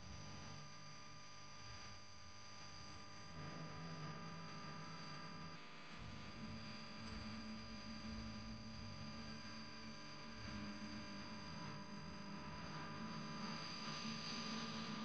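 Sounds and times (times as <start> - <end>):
faint steady hum: 0.0 - 15.0
thin high whine: 0.0 - 15.0.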